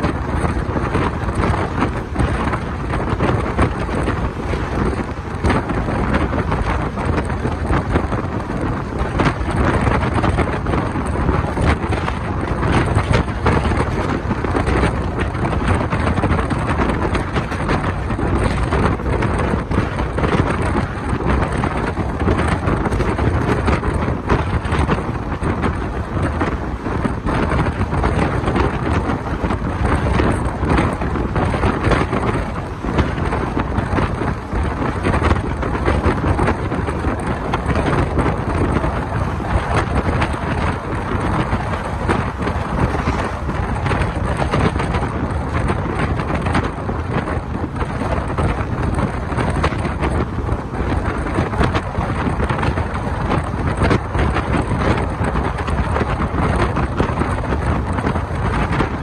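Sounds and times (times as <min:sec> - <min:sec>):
train running on track: 0:00.0 - 0:59.0
wind buffeting microphone: 0:00.0 - 0:59.0.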